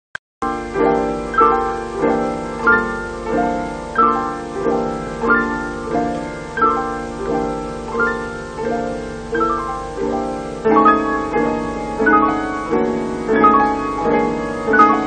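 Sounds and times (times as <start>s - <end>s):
gentle piano music: 0.4s - 15.0s.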